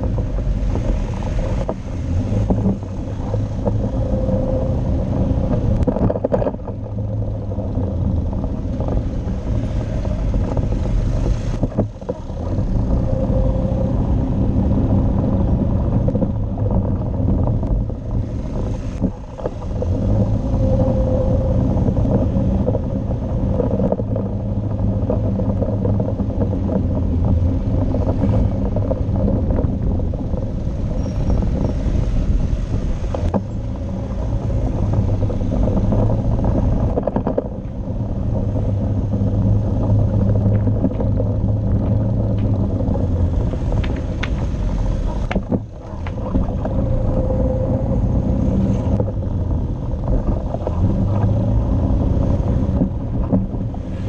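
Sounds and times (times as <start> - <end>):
motorcycle engine droning: 0.0 - 54.0
road and wind noise: 0.0 - 54.0.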